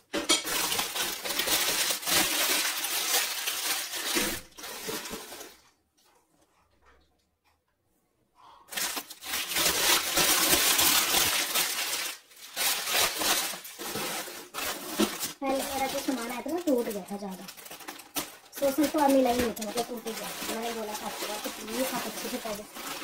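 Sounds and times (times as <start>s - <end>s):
packaging crinkling: 0.4s - 5.7s, 8.7s - 23.0s.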